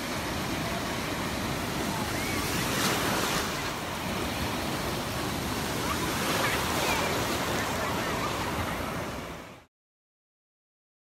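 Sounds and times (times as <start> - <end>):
ocean surf breaking: 0.0 - 9.7.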